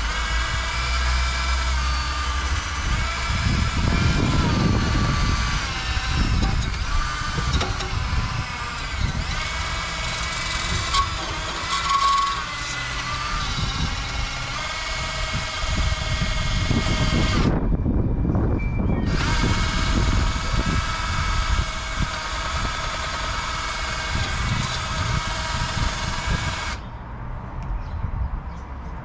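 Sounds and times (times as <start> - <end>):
wire wheel scrubbing rust: 0.0 - 17.6, 19.0 - 26.9
drill motor whine: 0.0 - 17.7, 19.0 - 26.8.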